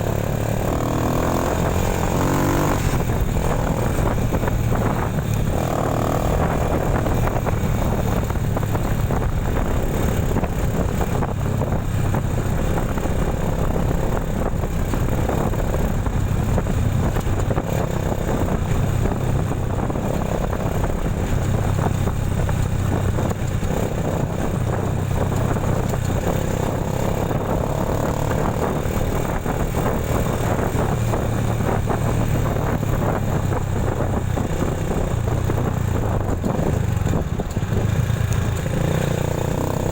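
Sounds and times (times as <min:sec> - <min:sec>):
road and wind noise: 0:00.0 - 0:39.9
vehicle engine hum: 0:00.0 - 0:39.9.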